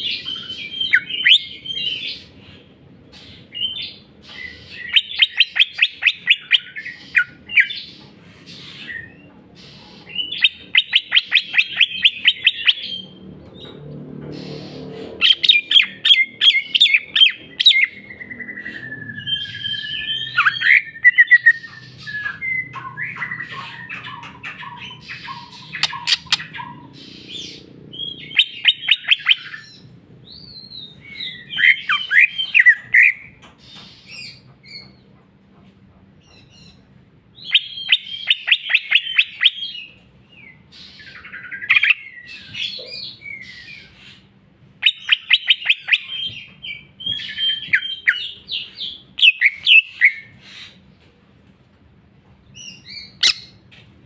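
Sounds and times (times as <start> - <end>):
bird trills and whistles: 0.0 - 13.2, 14.4 - 35.0, 37.4 - 50.8, 52.6 - 53.6.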